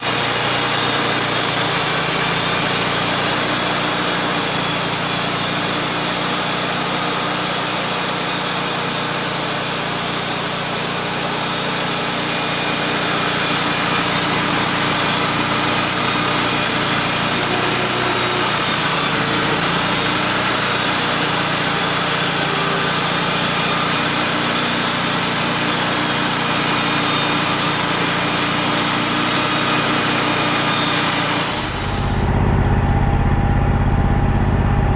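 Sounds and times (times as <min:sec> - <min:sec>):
band sawmill sawing log: 0:00.0 - 0:32.4.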